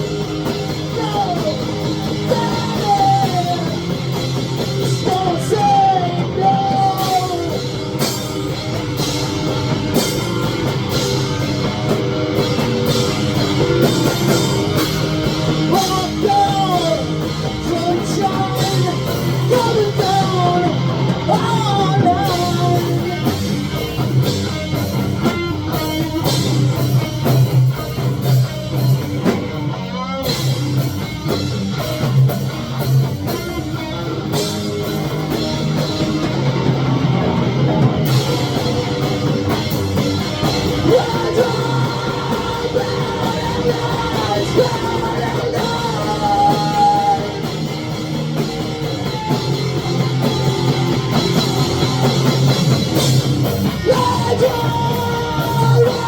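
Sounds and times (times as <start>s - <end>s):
rock song with sung vocal: 0.0s - 56.0s.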